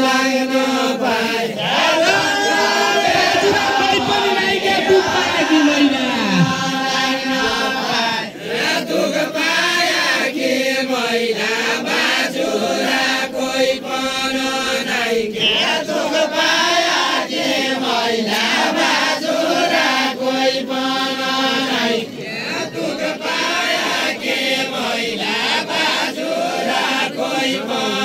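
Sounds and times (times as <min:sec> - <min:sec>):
voices chanting: 0:00.0 - 0:28.0.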